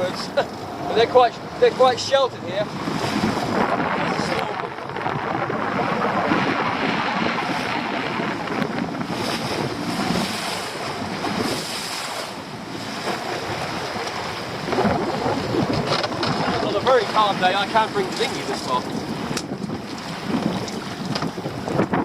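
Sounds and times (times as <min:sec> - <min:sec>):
water lapping around a boat: 0:00.0 - 0:22.0
wind buffeting microphone: 0:00.0 - 0:22.0.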